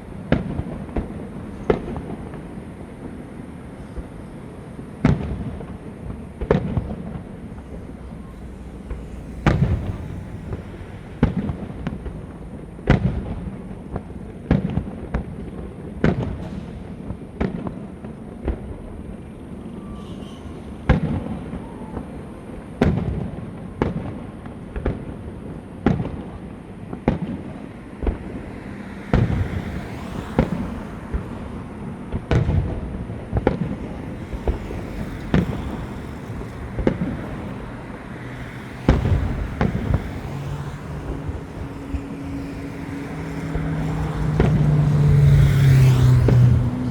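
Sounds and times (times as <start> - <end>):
fireworks bangs with echo: 0.0 - 38.0, 38.6 - 41.6.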